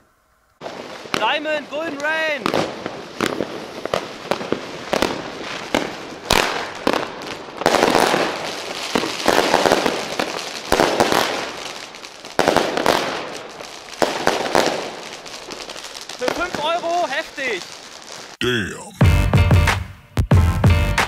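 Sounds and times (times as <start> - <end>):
firework shots exploding: 0.6 - 18.4.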